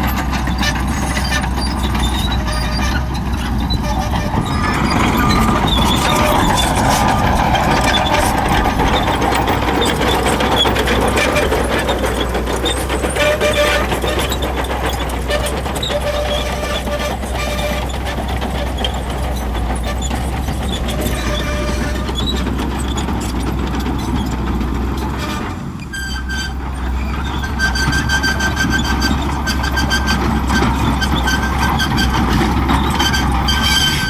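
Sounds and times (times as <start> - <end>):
bulldozer diesel engine running: 0.0 - 34.0
steel tracks clanking: 0.0 - 34.0.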